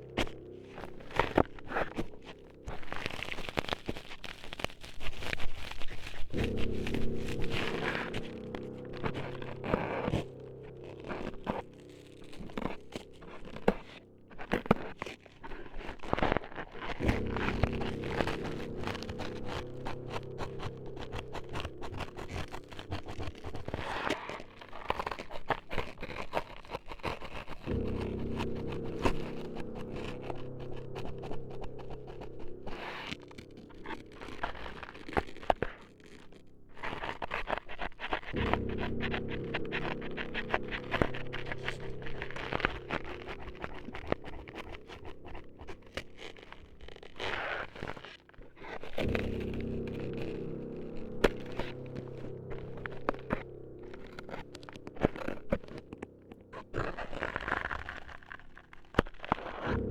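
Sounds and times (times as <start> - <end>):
low droning hum: 0.0 - 5.1, 6.1 - 16.0, 16.8 - 26.1, 27.6 - 58.8, 59.6 - 59.9
scraping and crunching at microphone: 0.0 - 59.9.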